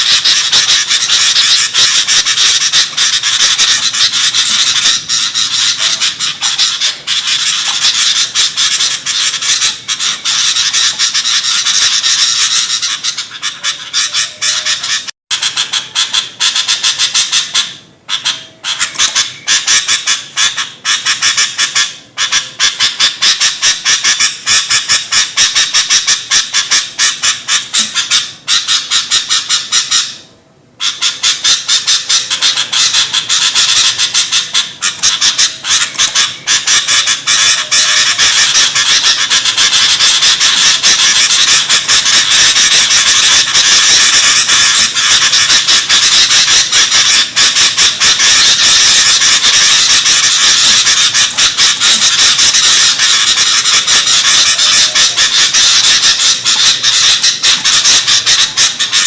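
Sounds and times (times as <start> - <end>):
birds chattering harshly: 0.0 - 59.0.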